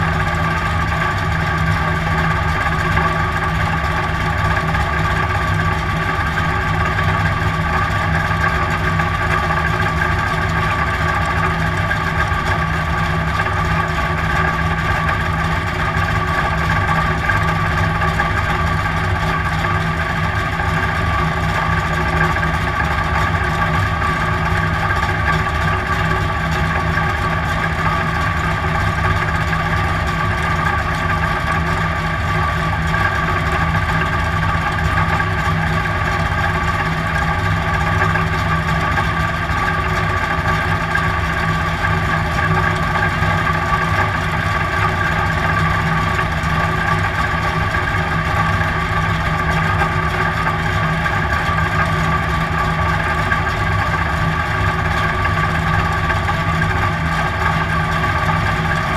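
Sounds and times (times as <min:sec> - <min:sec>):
race car engine idling: 0:00.0 - 0:58.9.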